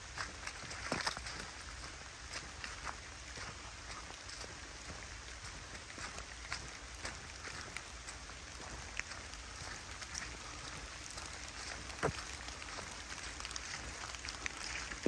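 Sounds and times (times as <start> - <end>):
light rain pattering on leaves: 0.0 - 15.0.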